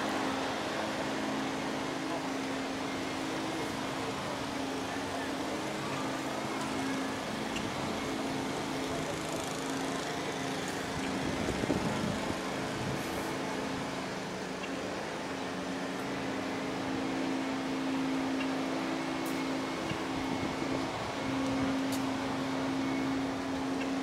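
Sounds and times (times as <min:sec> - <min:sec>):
traffic noise: 0:00.0 - 0:24.0.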